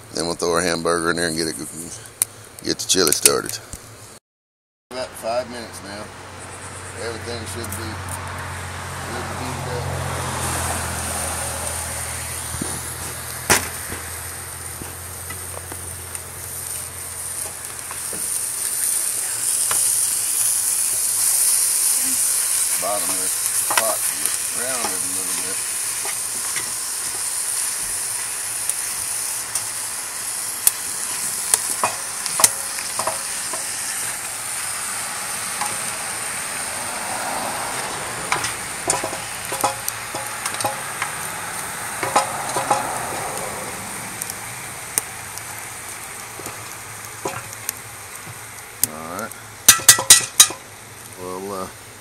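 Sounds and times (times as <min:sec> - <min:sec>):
ground beef sizzling in a pot: 0:06.9 - 0:52.0.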